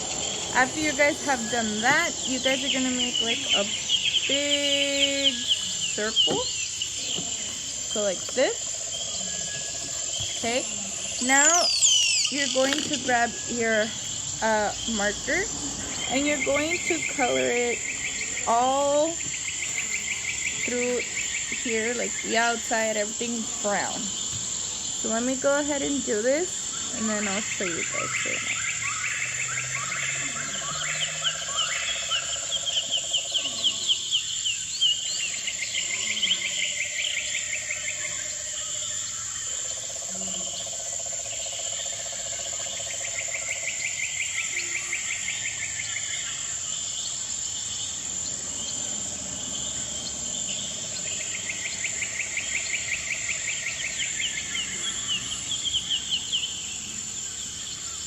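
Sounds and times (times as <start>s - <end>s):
insect chorus: 0.0s - 58.0s
insects trilling: 0.0s - 58.0s.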